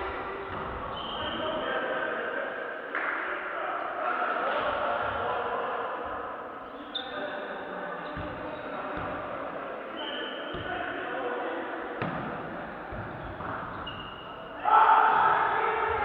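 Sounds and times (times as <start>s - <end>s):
echoing voices in a gym: 0.0s - 16.0s.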